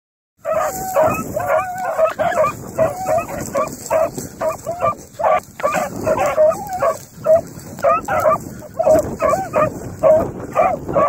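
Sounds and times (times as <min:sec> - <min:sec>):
dog barking and baying: 0:00.4 - 0:11.0.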